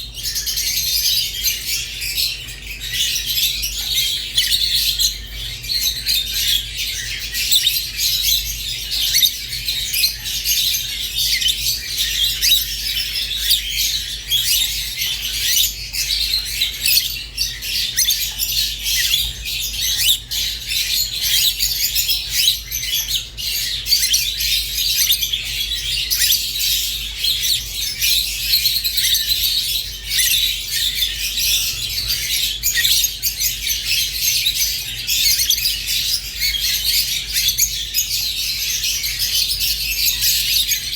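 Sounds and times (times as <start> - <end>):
lovebirds chirping and chattering: 0.0 - 40.9.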